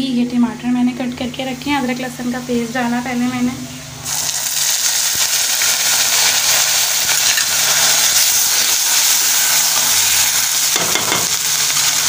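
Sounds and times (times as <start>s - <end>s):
onions frying in hot oil: 0.6s - 12.0s.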